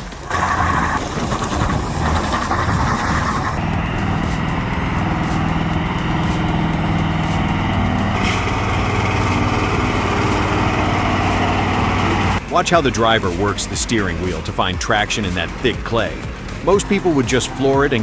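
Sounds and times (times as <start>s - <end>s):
truck engine running under load: 0.0s - 18.0s.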